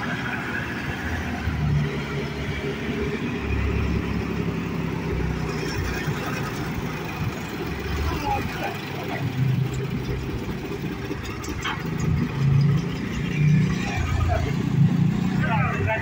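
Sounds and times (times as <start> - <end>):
forklift engine rumbling: 0.0 - 16.0.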